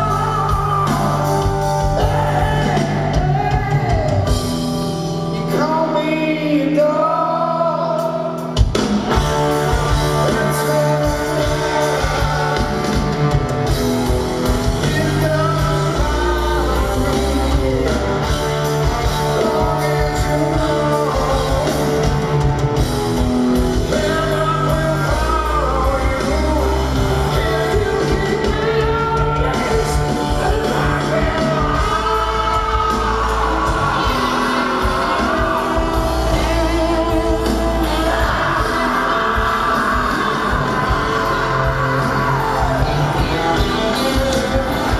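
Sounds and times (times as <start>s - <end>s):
male singing: 0.0s - 4.4s, 5.3s - 8.4s, 9.7s - 13.3s, 14.7s - 22.2s, 23.6s - 44.9s
drums and bass: 0.0s - 44.9s
electric guitars: 0.0s - 44.9s.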